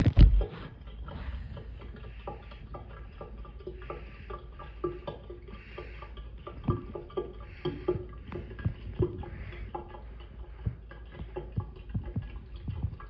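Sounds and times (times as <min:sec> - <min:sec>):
water plops and pops: 0:00.0 - 0:00.7, 0:02.3 - 0:13.0
steady low hum: 0:00.0 - 0:13.0
water splashing and bubbling: 0:00.0 - 0:13.0.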